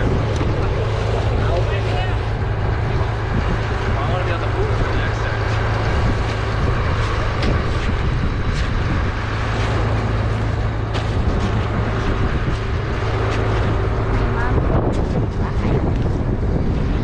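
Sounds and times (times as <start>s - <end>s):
low engine hum: 0.0s - 17.0s
wind blowing across microphone: 0.0s - 17.0s.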